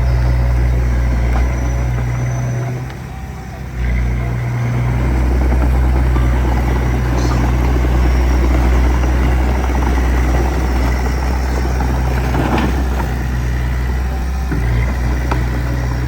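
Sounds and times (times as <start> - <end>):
diesel engine droning and clattering: 0.0 - 16.0.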